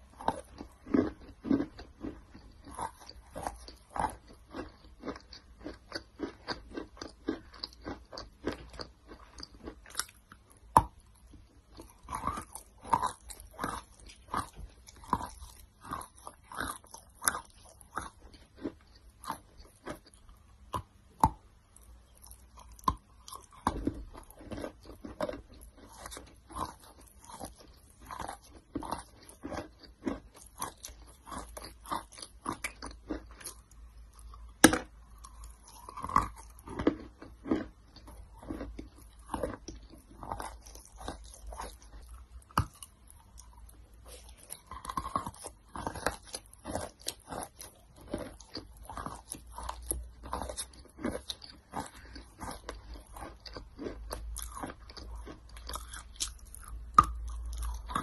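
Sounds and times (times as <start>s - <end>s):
chewing wet clay: 0.0s - 58.0s.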